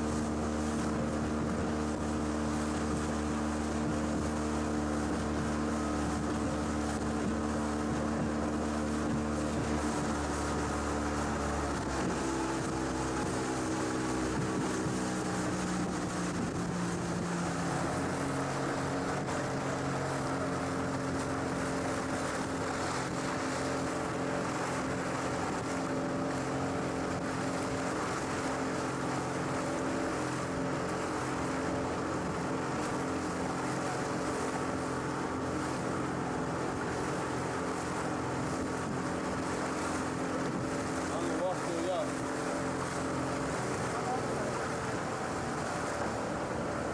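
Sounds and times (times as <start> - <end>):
motorboat engine running: 0.0 - 46.9
water rushing: 0.0 - 46.9
wind: 0.0 - 46.9.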